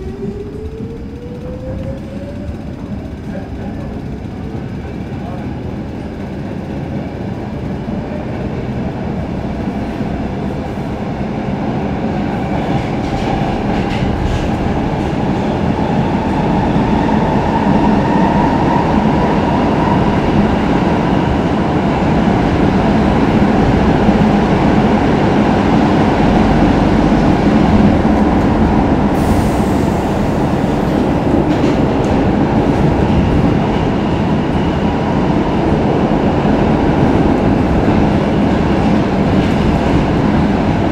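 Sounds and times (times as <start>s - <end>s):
train running noise from inside: 0.0s - 40.9s.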